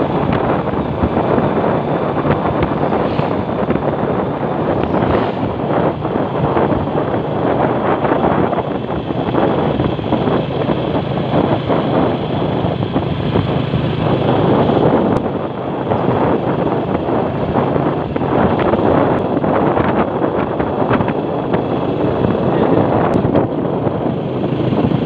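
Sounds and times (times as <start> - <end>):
vehicle moving on paved road: 0.0 - 25.0
wind buffeting the microphone: 0.0 - 25.0.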